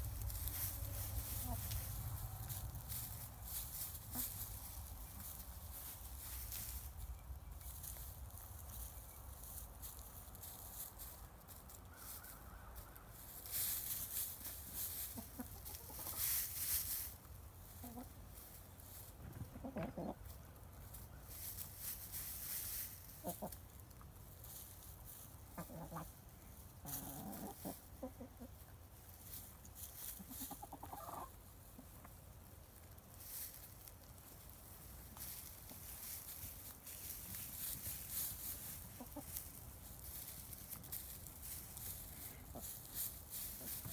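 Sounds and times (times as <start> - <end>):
rustling hiss: 0.0 - 28.0, 28.6 - 43.9
hens clucking: 0.0 - 43.9.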